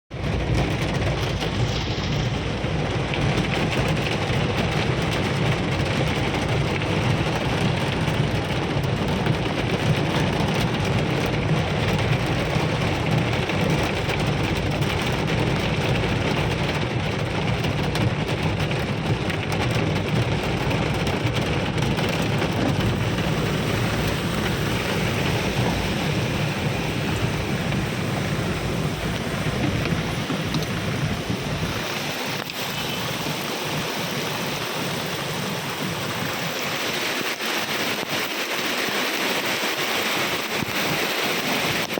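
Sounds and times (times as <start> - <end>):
low rumble: 0.1 - 36.6
heavy rain pouring: 0.1 - 41.9.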